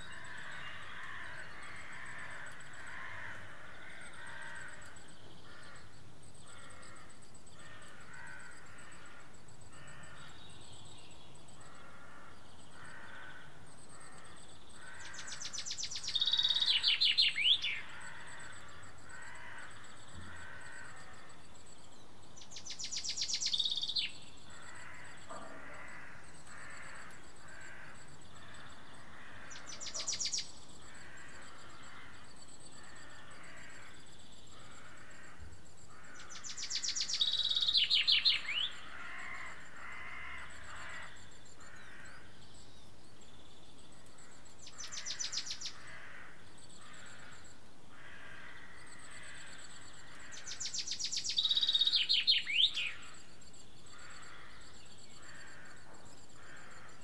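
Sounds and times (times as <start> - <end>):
repeated bird calls: 0.0 - 57.0
songbird trilling: 4.6 - 35.3, 35.9 - 47.6, 48.9 - 57.0.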